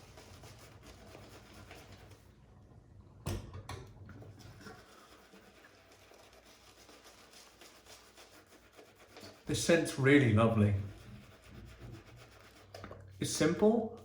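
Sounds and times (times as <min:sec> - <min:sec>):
shaving brush rubbing soap: 0:00.0 - 0:02.3, 0:04.4 - 0:14.0.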